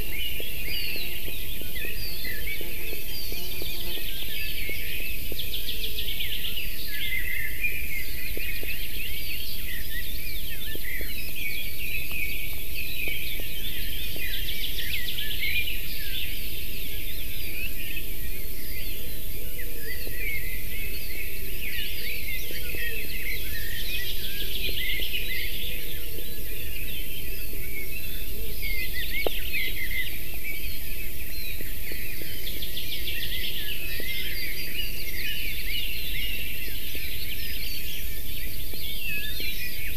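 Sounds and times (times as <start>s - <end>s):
constant high hiss: 0.0s - 39.9s
songbirds singing and chirping: 0.0s - 39.9s.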